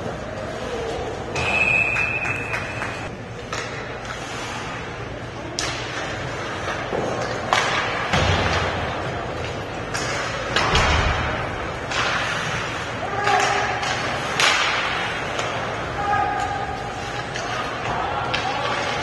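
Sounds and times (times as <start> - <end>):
puck and sticks hitting rink boards: 0.9 - 19.0.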